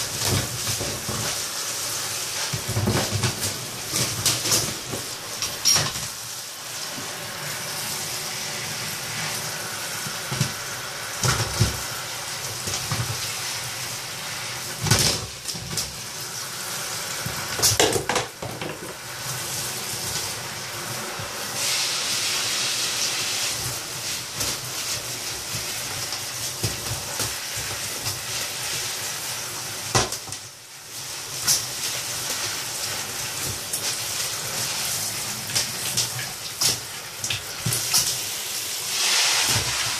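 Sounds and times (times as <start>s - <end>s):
shower spray hissing: 0.0s - 39.9s.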